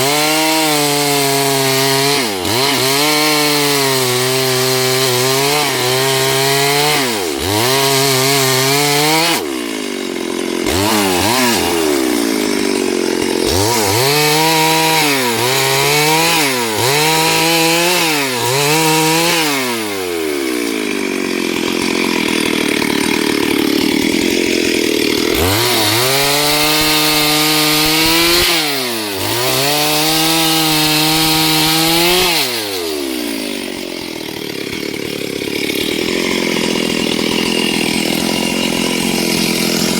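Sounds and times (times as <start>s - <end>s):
chainsaw cutting through wood: 0.0s - 39.9s
chainsaw engine revving: 0.0s - 39.9s.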